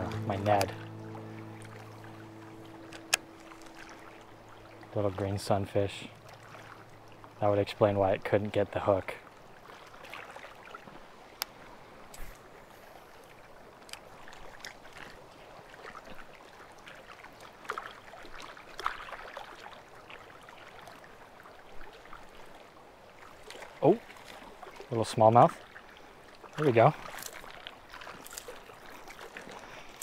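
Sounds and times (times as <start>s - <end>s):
small waves lapping: 0.0s - 30.0s.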